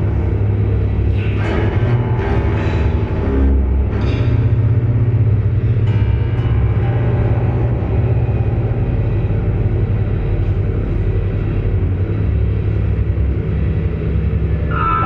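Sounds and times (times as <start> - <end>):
experimental music low drone: 0.0 - 15.0.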